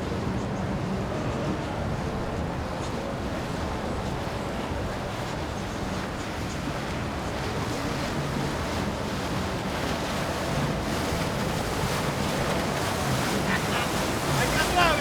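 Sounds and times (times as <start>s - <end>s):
moving water: 0.0s - 15.0s
boat motors humming: 0.4s - 15.0s.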